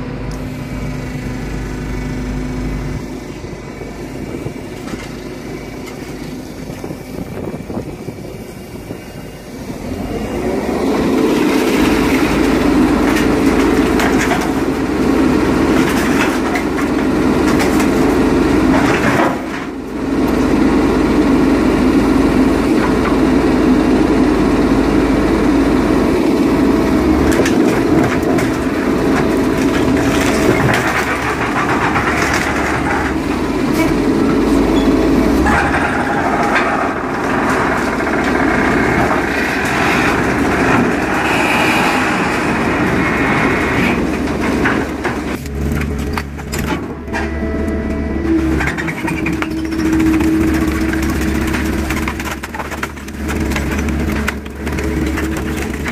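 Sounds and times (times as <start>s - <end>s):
hydraulic machinery drone: 0.0s - 55.9s.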